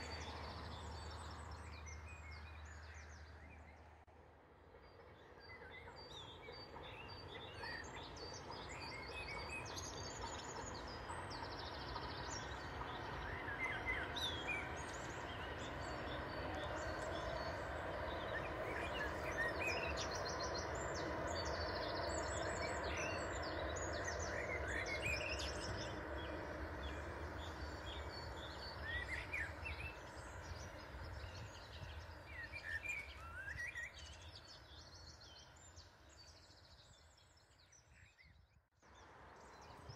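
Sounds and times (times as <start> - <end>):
distant train rushing past: 0.0 - 33.3.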